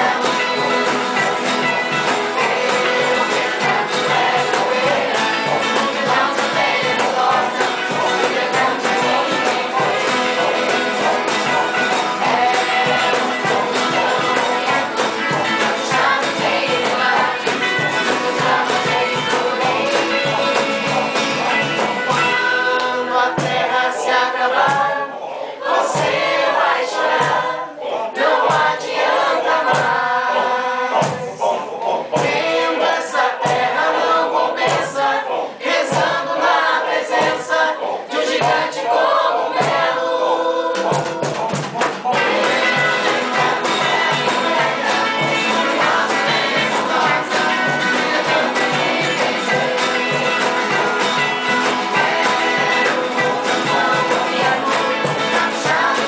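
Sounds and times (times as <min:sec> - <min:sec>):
strummed acoustic guitar: 0:00.0 - 0:56.0
young voices singing in choir: 0:00.0 - 0:56.0.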